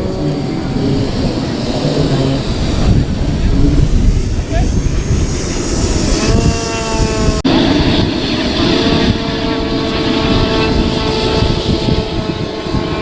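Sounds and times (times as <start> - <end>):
model aircraft engine running: 0.0 - 13.0
thin high whine: 0.0 - 13.0.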